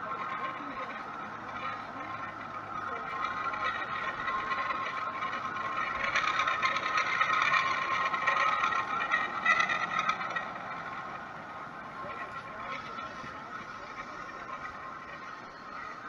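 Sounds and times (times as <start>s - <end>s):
engine with whining tone: 0.0s - 16.0s.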